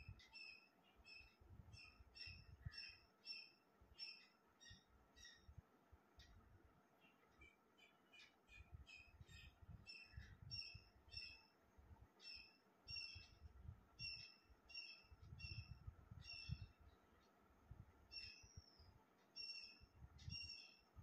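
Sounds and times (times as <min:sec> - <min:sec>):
bird chirping faintly: 0:00.0 - 0:21.0
faint low rumble: 0:00.0 - 0:21.0.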